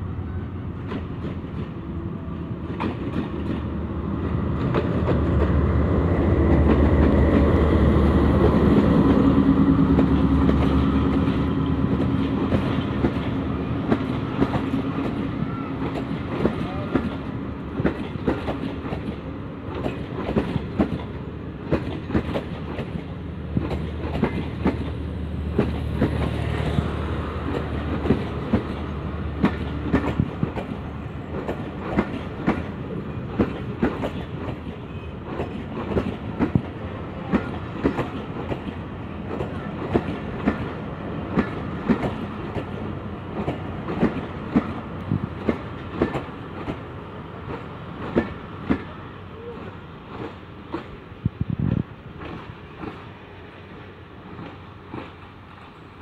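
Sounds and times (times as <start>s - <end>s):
train wheels clicking over rail joints: 0.8s - 1.8s, 2.6s - 55.8s.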